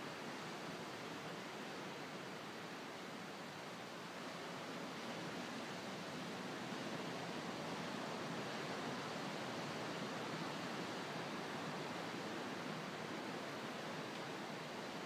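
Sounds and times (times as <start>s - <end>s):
ocean surf hissing on a beach: 0.0s - 15.0s.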